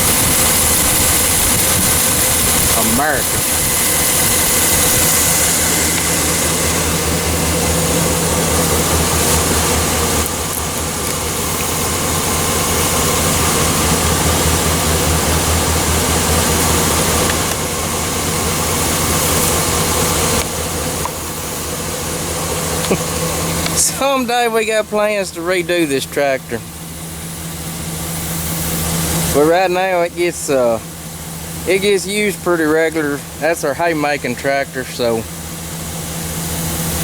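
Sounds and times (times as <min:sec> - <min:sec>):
constant hiss: 0:00.0 - 0:37.0
vehicle engine idling: 0:00.0 - 0:37.0.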